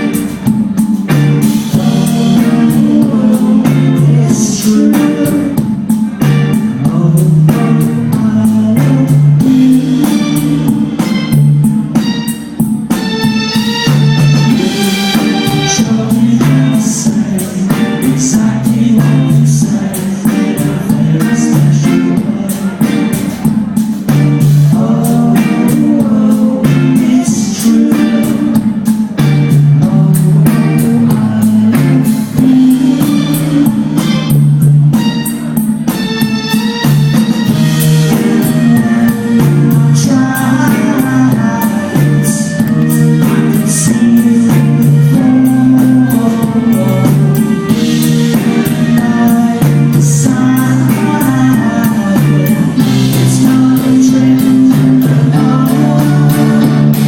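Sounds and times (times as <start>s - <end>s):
live rock band playing loudly: 0.0s - 57.0s.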